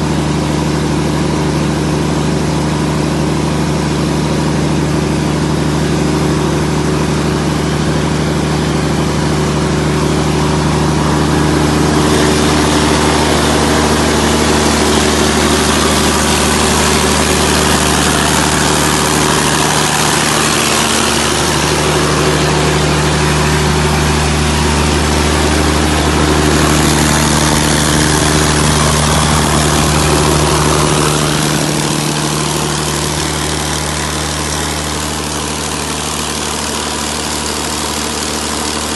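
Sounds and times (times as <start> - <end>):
diesel generator engine drone: 0.0 - 38.9.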